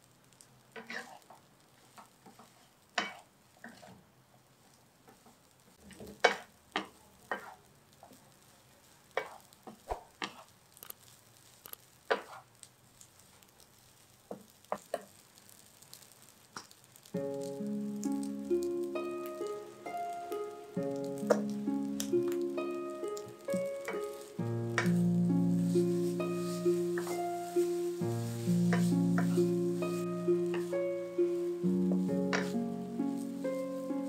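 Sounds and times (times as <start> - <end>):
faint sizzling: 0.0 - 34.0
wooden spatula scraping a wok: 0.8 - 4.1, 5.1 - 12.5, 13.2 - 34.0.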